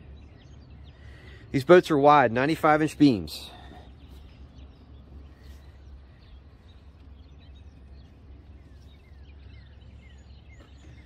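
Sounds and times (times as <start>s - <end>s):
bird chirps: 0.0s - 11.0s
steady low rumble: 0.0s - 11.0s.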